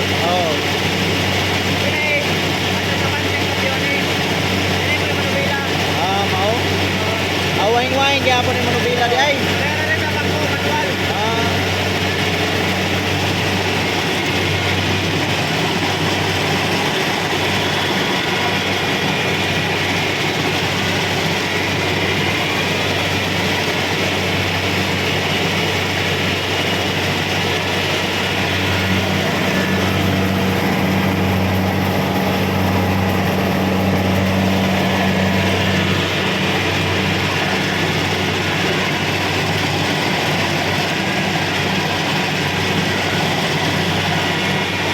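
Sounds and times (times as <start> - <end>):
combine harvester drone: 0.0 - 44.9.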